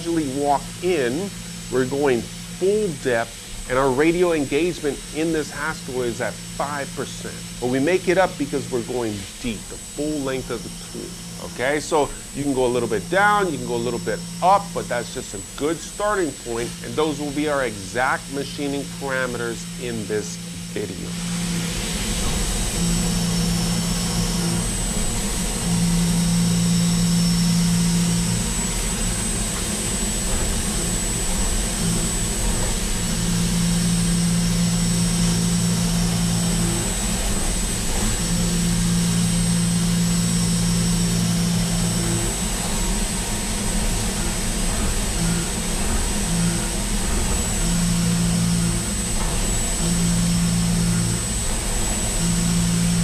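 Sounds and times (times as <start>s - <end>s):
constant high whine: 0.0s - 53.0s
low hum: 0.0s - 53.0s
milling machine and coolant spray: 0.0s - 53.0s.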